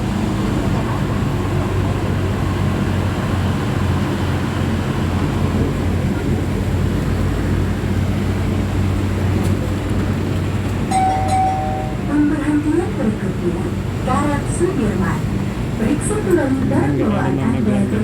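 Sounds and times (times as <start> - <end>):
train interior rumble and hum: 0.0 - 18.0.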